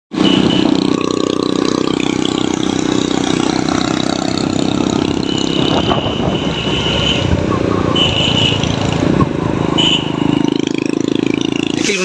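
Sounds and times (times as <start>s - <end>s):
motorcycle engine running: 0.2s - 12.0s.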